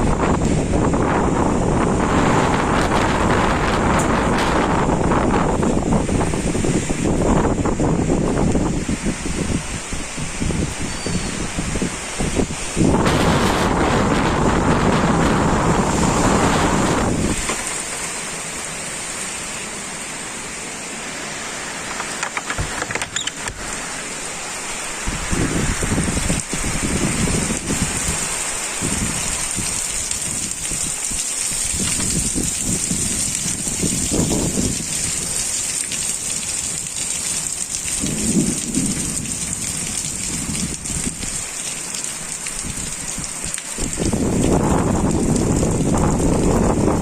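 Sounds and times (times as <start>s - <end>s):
strong wind gusts: 0.0s - 41.6s, 42.2s - 47.0s
heavy rain pouring: 0.0s - 47.0s.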